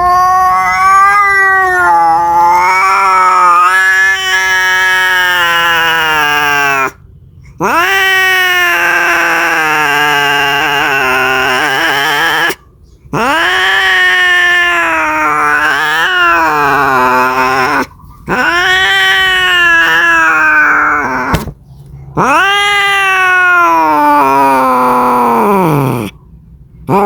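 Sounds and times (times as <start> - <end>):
cat yowling: 0.0 - 7.0, 7.6 - 21.6, 22.2 - 26.2.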